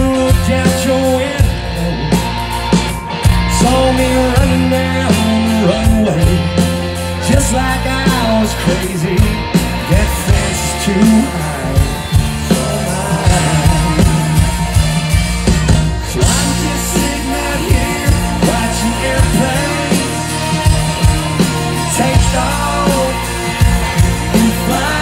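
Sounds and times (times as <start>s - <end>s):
man singing into a microphone: 0.0s - 2.4s, 3.4s - 14.8s, 16.0s - 25.0s
country rock band playing: 0.0s - 25.0s.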